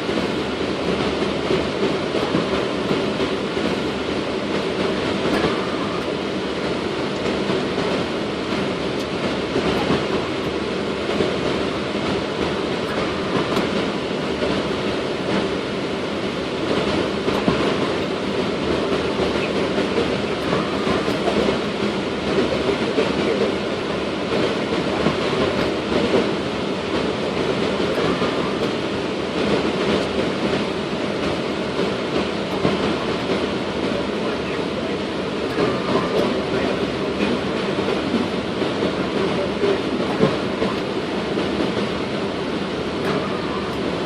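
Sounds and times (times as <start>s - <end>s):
jet engines idling: 0.0s - 44.0s.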